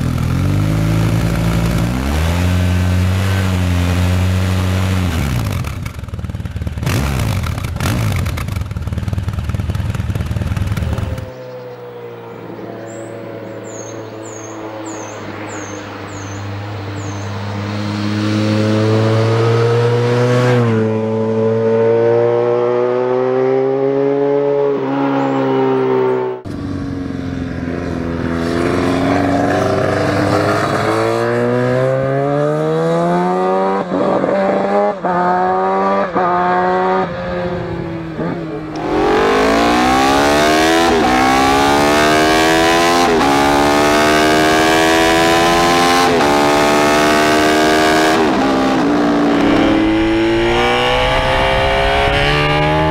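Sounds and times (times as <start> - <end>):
motorcycle engine revving: 0.0 - 52.9
motorcycle engine revving on track: 0.0 - 52.9.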